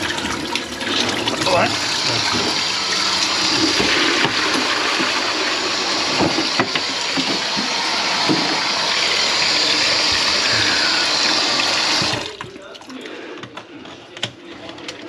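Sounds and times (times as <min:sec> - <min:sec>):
faucet water running into sink: 0:00.0 - 0:12.9.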